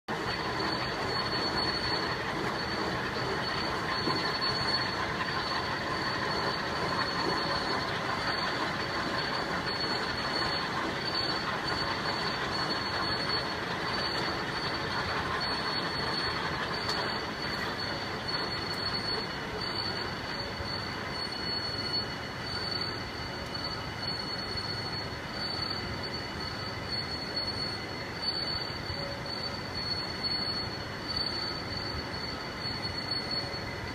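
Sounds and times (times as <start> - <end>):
cnc router spindle whining: 0.1 - 33.9.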